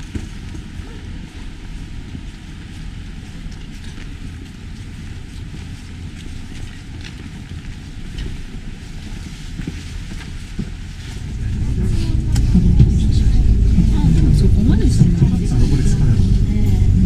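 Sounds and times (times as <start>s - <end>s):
cable car cabin rumble: 0.0s - 17.0s.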